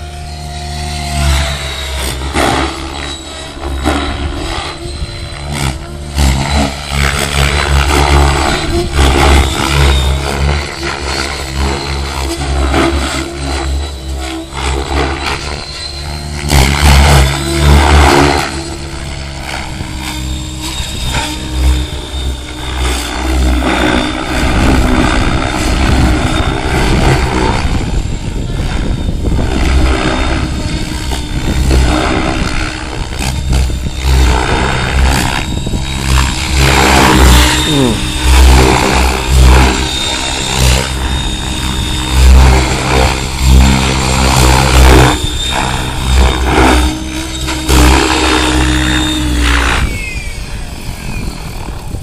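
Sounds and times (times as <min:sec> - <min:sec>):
motor and gears whining: 0:00.0 - 0:52.0
rotor blades whooshing: 0:00.0 - 0:52.0.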